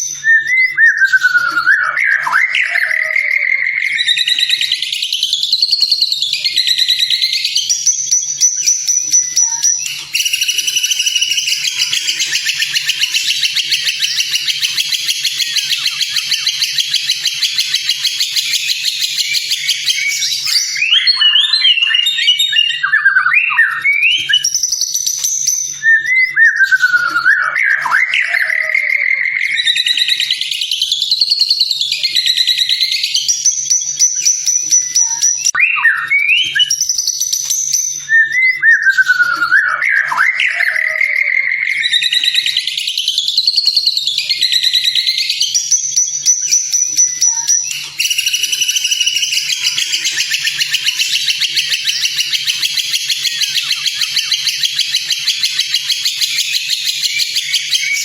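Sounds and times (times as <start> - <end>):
bird whistled song: 0.0 - 58.0
rapid buzzy bird trill: 0.0 - 58.0.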